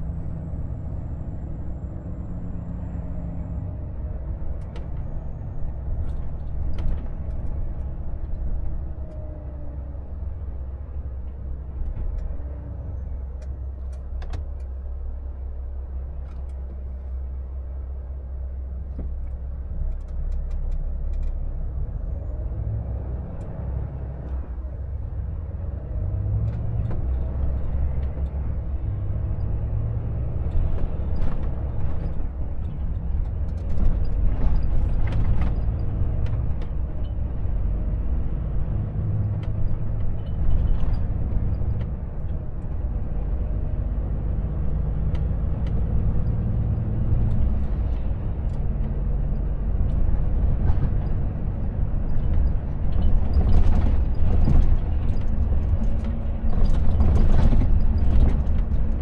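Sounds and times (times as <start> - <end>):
truck diesel engine accelerating: 0.0 - 59.0
tyre and road noise: 0.0 - 59.0.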